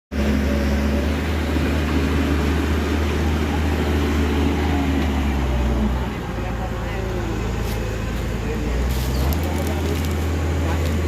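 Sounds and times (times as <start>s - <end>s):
large engine humming: 0.1s - 11.0s.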